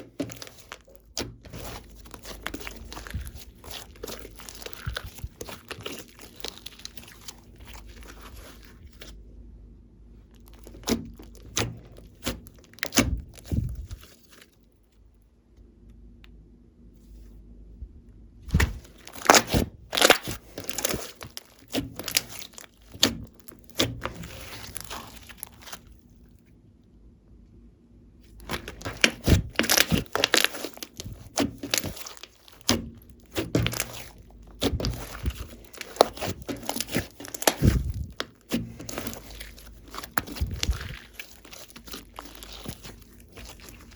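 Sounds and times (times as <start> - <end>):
hands squishing sticky slime: 0.0 - 9.2, 10.2 - 14.5, 18.5 - 26.1, 28.3 - 43.9.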